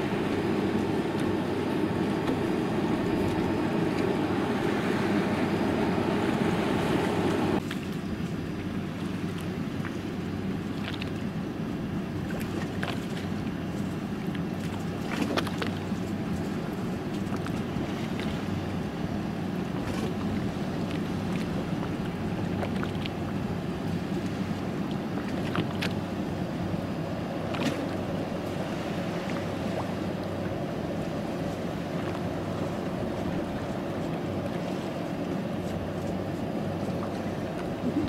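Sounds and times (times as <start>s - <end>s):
motorboat engine running: 0.0s - 38.0s
water noise: 0.0s - 38.0s
wind: 0.0s - 38.0s.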